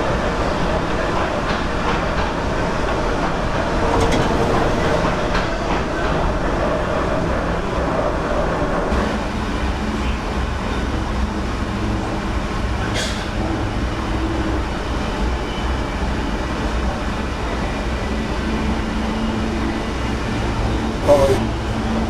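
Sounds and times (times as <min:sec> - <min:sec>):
electric train rumbling on track: 0:00.0 - 0:22.0.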